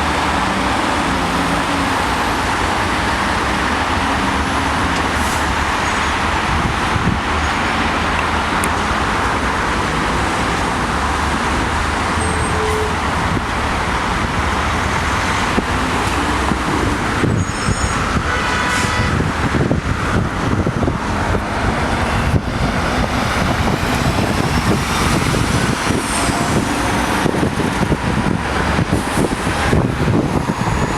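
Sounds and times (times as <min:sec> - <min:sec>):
freeway traffic rumble: 0:00.0 - 0:30.9.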